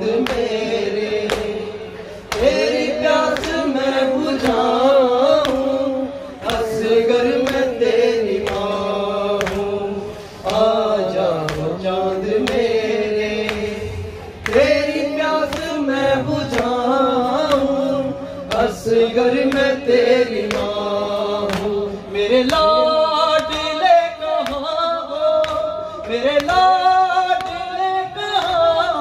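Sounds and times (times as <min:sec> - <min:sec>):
man singing lament into microphone: 0:00.0 - 0:29.0.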